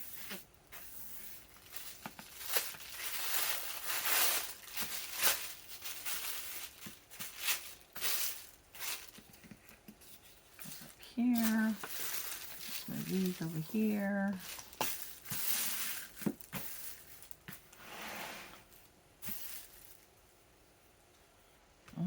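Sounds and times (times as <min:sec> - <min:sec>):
plastic bag rustling: 0:00.0 - 0:20.2.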